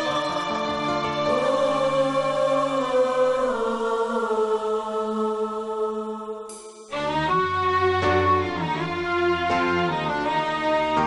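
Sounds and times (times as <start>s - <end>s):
slow theme music held notes: 0.0s - 4.8s, 6.5s - 11.0s.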